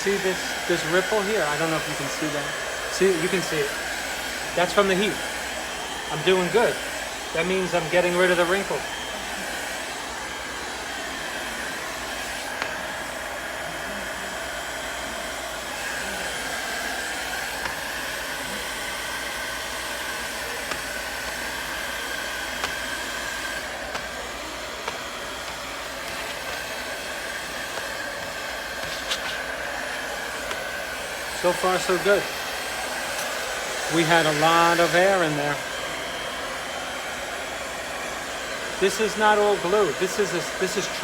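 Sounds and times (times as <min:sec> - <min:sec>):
hot-air blower whine: 0:00.0 - 0:41.0.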